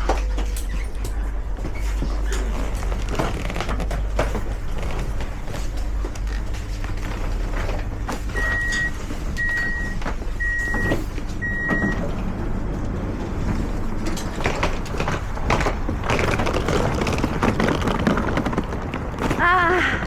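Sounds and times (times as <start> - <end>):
vehicle traffic rumble: 0.0 - 20.0.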